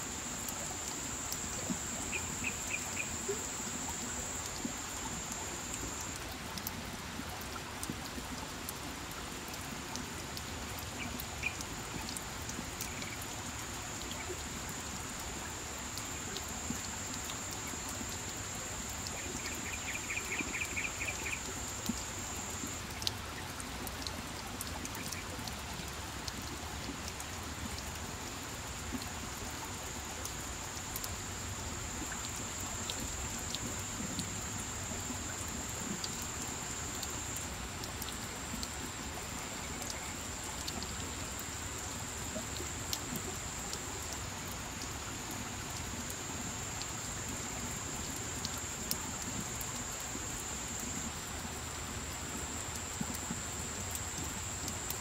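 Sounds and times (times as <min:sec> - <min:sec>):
water drops pattering on leaves: 0:00.3 - 0:14.8, 0:15.6 - 0:55.0.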